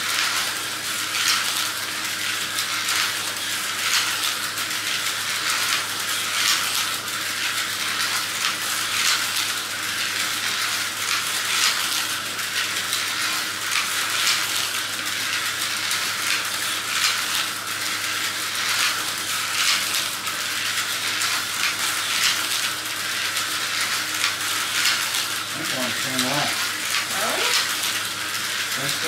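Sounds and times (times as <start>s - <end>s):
slot cars whirring: 0.0s - 29.0s.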